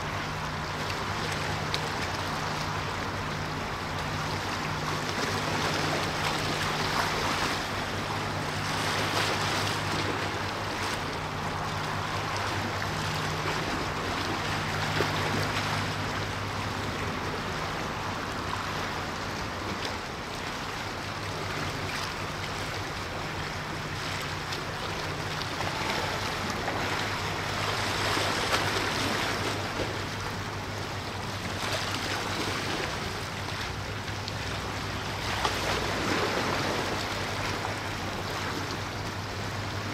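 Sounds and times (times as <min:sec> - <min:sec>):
low hum of ship engines: 0:00.0 - 0:39.9
sea water rushing and lapping: 0:00.0 - 0:39.9.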